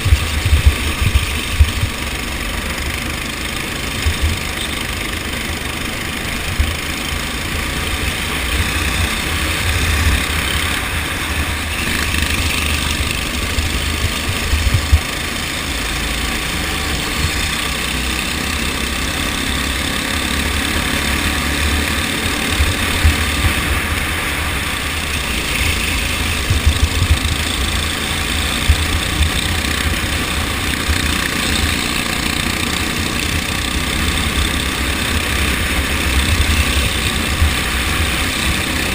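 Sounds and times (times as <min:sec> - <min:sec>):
go-kart engine running: 0:00.0 - 0:38.9.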